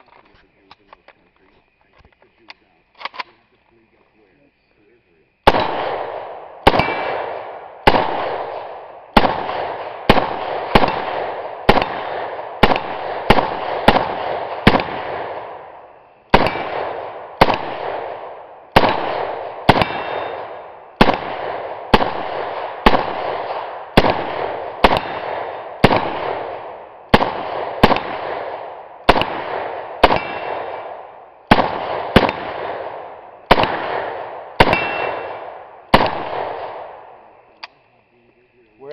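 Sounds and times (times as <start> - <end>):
rifle shots with echo: 5.4 - 37.8.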